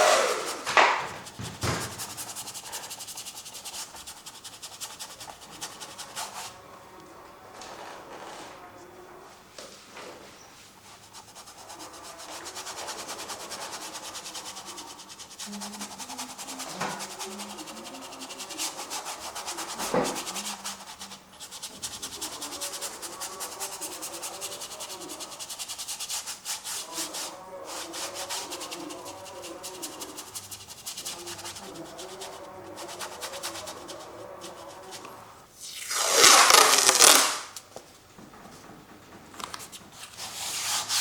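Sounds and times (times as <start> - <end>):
brush scrubbing paint on canvas: 0.0 - 7.4, 10.6 - 37.7, 39.4 - 41.0.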